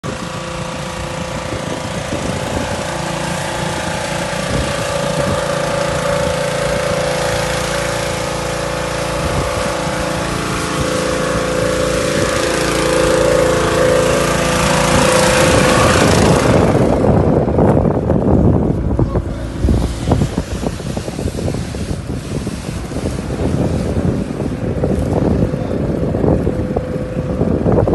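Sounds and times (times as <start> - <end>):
engine running steadily: 0.0 - 27.9
wind buffeting microphone: 0.0 - 27.9.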